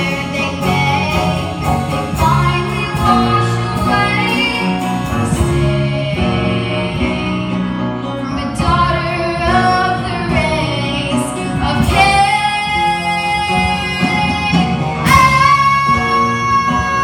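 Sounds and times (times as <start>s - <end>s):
instrumental accompaniment: 0.0s - 17.0s
woman singing a ballad: 0.0s - 17.0s.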